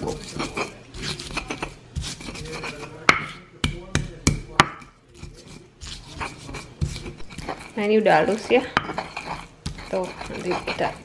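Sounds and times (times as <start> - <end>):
pestle crushing in stone mortar: 0.0 - 11.0.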